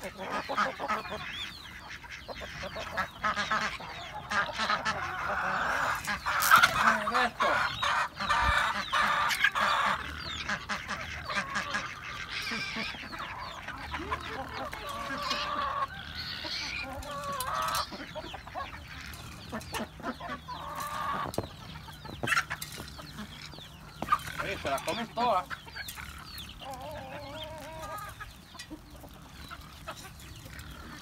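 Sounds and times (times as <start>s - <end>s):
chickens and ducks clucking: 0.0s - 31.0s.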